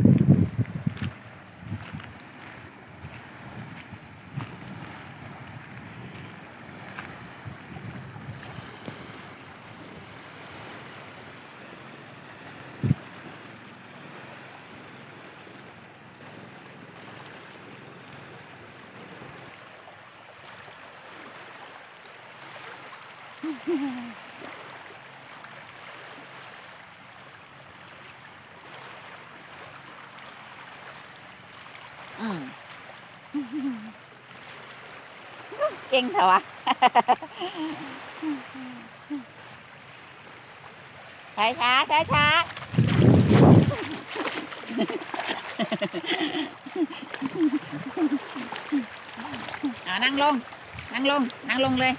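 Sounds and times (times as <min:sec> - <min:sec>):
small waves lapping on pebbles: 0:00.0 - 0:51.9.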